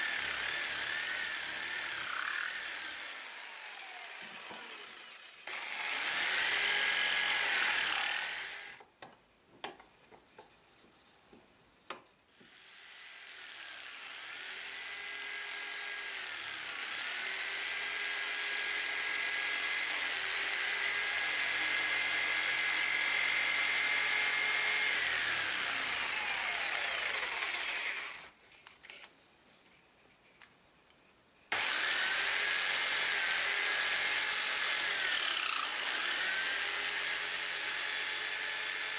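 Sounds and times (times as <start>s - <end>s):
jigsaw cutting wood: 0.0s - 8.8s, 12.3s - 28.3s, 31.5s - 38.9s.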